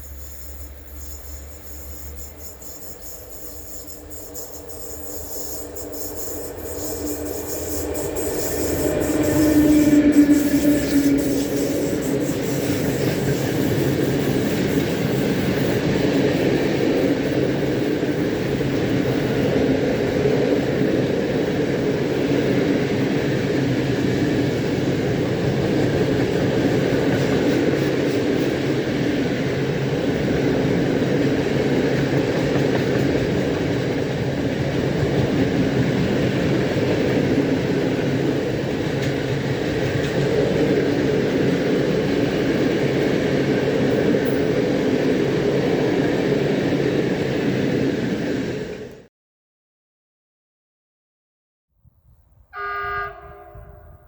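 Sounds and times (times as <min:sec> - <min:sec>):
train wheels rumbling: 0:00.0 - 0:48.9.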